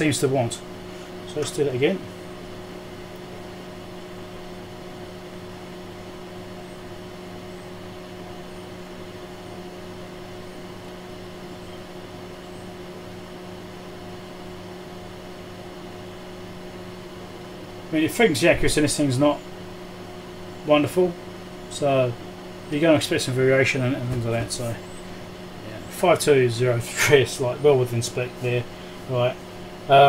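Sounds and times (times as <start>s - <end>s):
electrical hum with low tones: 0.0s - 30.0s
soft fan hiss: 0.0s - 30.0s.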